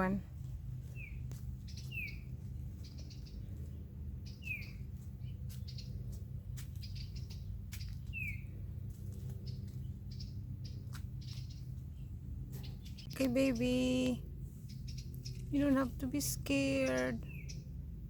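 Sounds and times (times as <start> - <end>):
songbirds chirping: 0.0 - 18.0
steady low rumble: 0.0 - 18.0.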